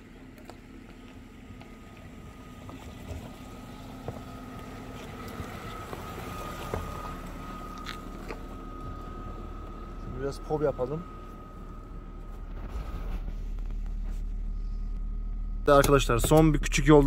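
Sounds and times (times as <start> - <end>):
car engine running: 0.0 - 17.0
steady whine: 0.0 - 17.0.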